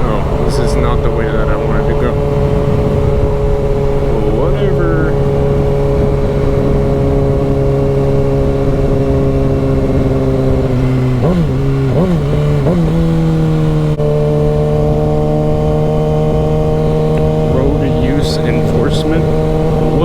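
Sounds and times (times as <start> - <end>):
motorcycle engine running: 0.0 - 20.0
wind rumble: 0.0 - 20.0.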